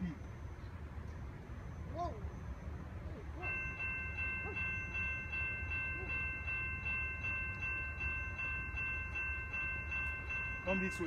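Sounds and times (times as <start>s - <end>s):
railway warning bell ringing: 0.0s - 11.0s.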